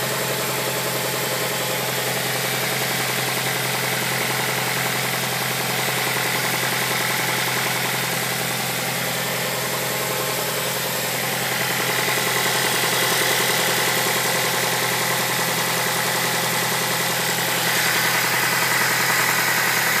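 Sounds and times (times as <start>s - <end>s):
car engine idling with knock: 0.0s - 20.0s.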